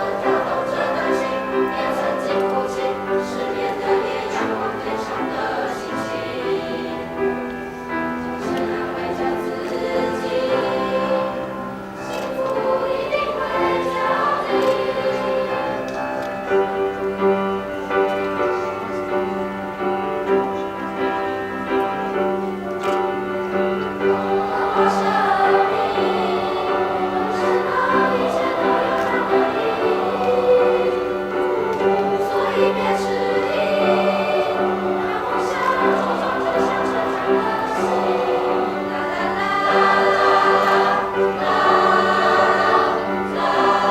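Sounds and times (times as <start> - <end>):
choir singing slow song: 0.0 - 43.9.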